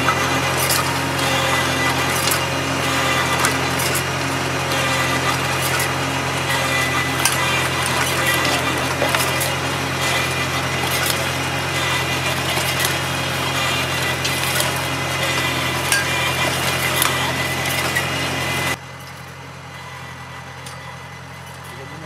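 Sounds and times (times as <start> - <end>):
stones scraping steel blade: 0.0 - 18.8
tractor engine running: 0.0 - 22.0.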